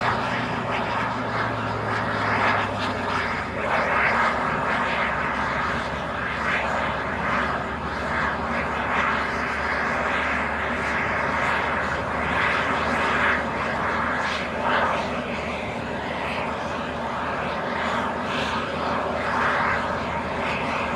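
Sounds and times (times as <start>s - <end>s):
jet engines rushing: 0.0s - 20.9s.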